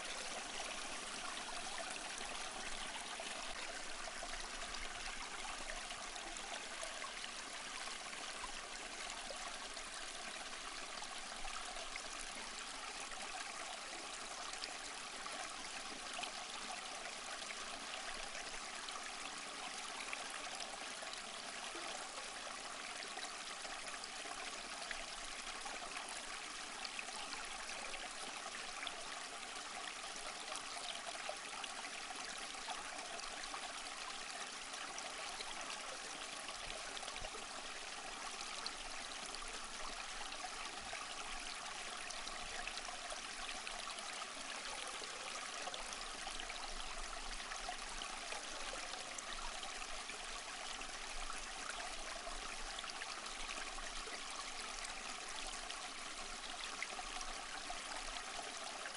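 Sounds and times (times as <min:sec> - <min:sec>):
small stream flowing: 0:00.0 - 0:58.9.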